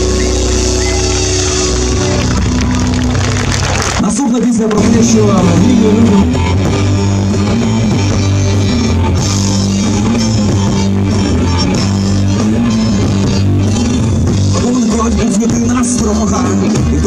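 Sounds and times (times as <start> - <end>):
bass guitar: 0.0 - 17.0
drums: 0.0 - 17.0
electric guitars: 0.0 - 17.0.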